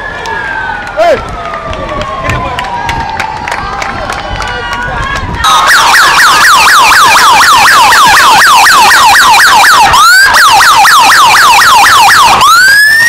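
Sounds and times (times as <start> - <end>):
police motorcycle siren: 0.0 - 3.8, 5.4 - 13.0.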